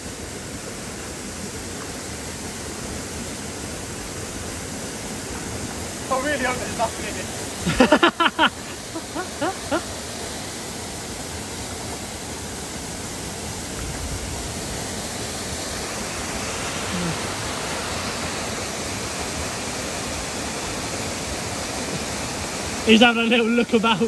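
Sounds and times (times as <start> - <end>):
small waterfall rushing: 0.0 - 24.0.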